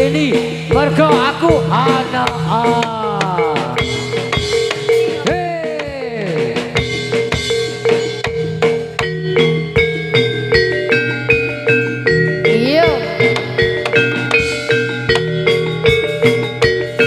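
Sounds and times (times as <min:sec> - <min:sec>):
drums beaten briskly: 0:00.0 - 0:17.0
swooping melody line: 0:00.9 - 0:17.0
held ringing tone: 0:02.4 - 0:17.0.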